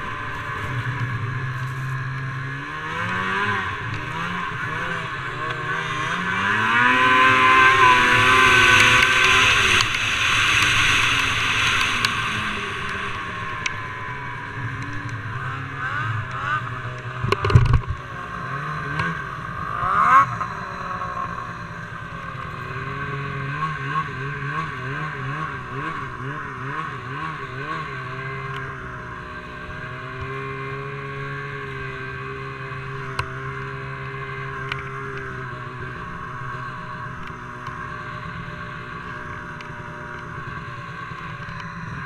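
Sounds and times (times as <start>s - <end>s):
snowmobile engine running: 0.0s - 42.0s.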